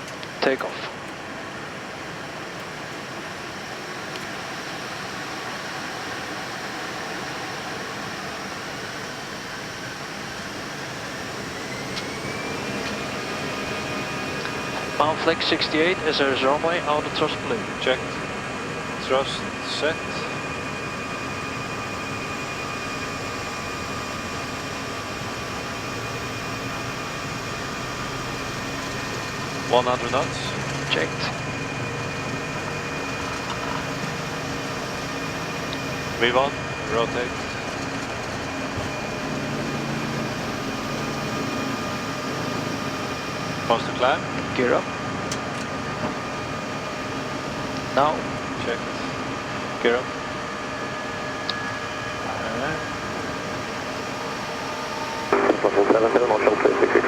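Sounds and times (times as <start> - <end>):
faint steady whining tones: 0.0 - 57.0
jet engines spooling up: 0.0 - 57.0.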